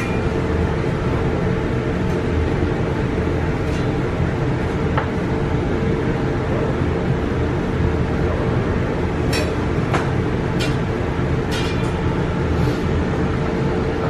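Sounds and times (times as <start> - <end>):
extraction fan drone: 0.0 - 14.0.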